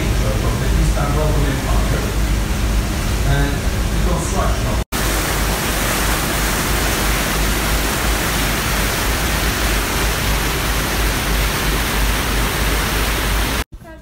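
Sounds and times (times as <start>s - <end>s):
boat wake water rushing: 0.0s - 13.7s
low engine rumble: 0.0s - 14.0s.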